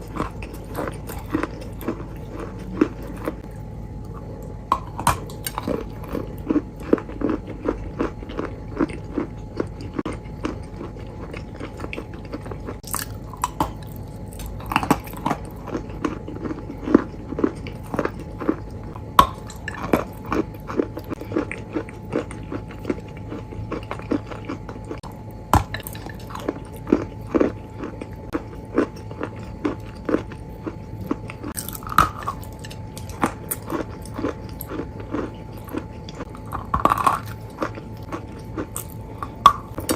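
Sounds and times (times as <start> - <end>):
chewing crunchy food: 0.0 - 39.9
faint steady hum: 0.0 - 39.9.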